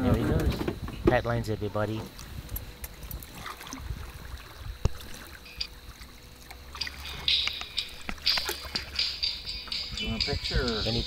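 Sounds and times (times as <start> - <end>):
water splashing and trickling: 1.2 - 11.0.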